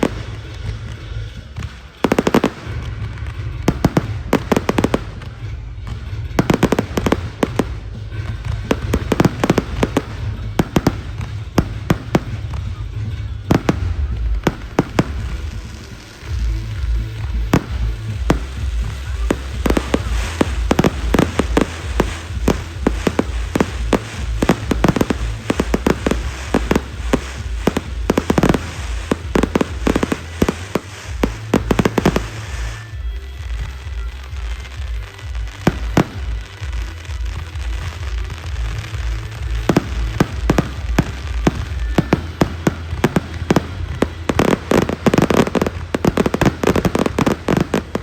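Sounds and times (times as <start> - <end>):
fireworks bursting with sharp bangs: 0.0 - 48.0
low rumble: 2.6 - 48.0.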